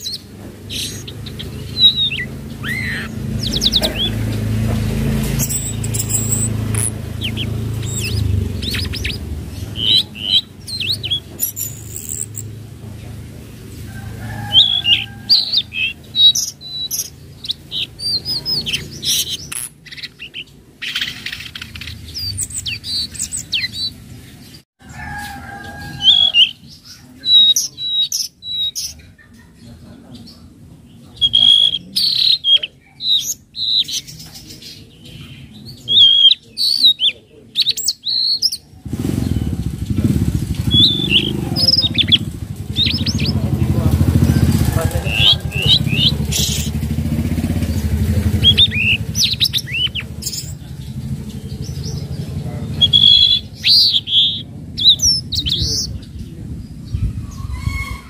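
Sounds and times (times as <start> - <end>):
bird chirping and trilling: 0.0 - 58.0.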